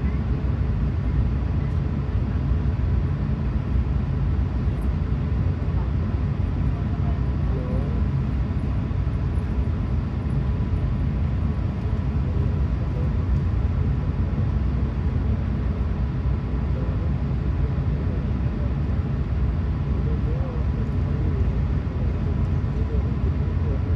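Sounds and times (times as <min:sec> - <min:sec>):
aircraft cabin engine rumble: 0:00.0 - 0:23.9
faint steady whine: 0:00.0 - 0:23.9.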